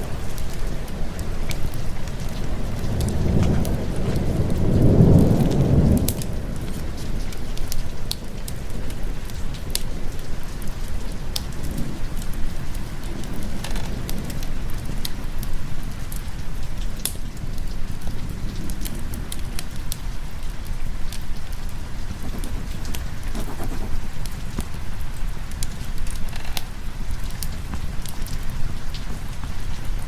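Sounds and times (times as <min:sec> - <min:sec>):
rain falling: 0:00.0 - 0:30.0
wood fire crackling: 0:00.0 - 0:30.0.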